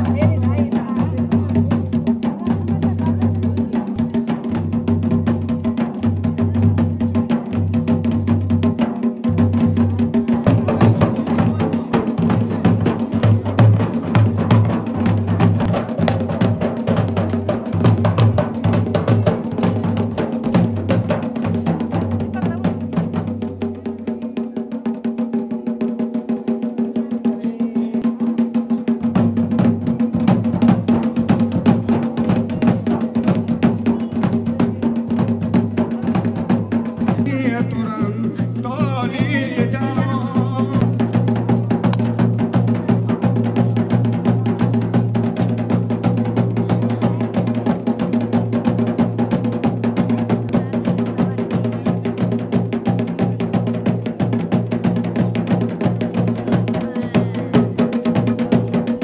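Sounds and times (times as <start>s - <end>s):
low drum beat: 0.0s - 59.0s.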